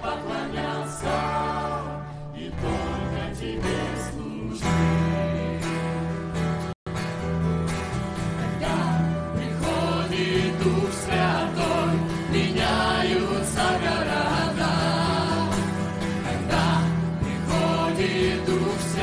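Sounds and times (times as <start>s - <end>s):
choir singing a hymn: 0.0s - 4.9s, 8.4s - 19.0s
acoustic guitar: 0.0s - 19.0s
bass guitar: 0.0s - 19.0s.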